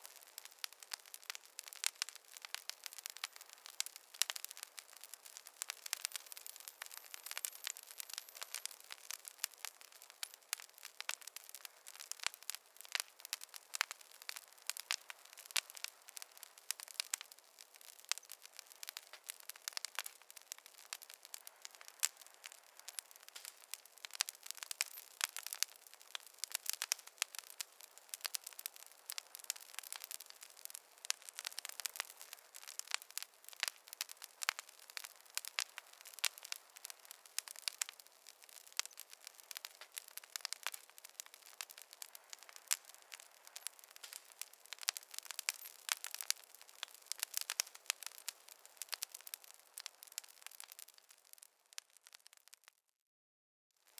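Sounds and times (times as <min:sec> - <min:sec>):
campfire crackling: 0:00.0 - 0:52.8.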